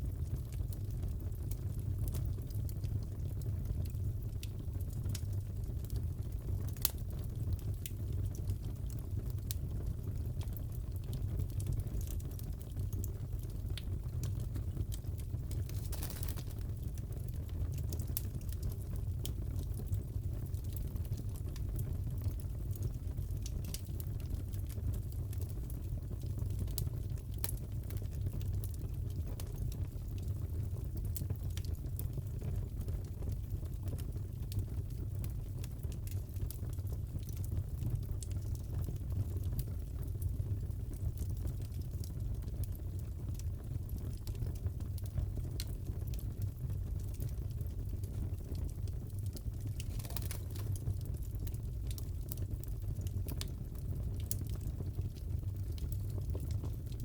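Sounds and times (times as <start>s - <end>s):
wood fire crackling: 0.0s - 57.0s
fire pops and snaps: 0.1s - 57.0s.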